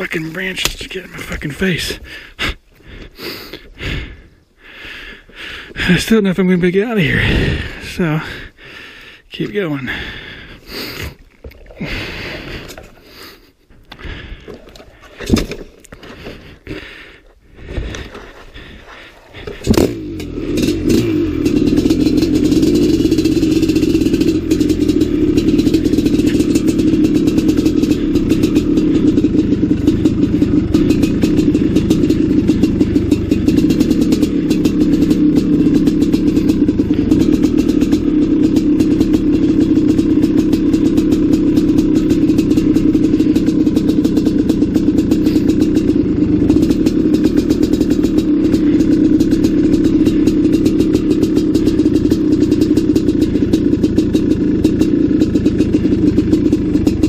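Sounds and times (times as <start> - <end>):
dirt bike engine running: 0.0 - 10.9, 11.6 - 13.3, 14.0 - 57.0.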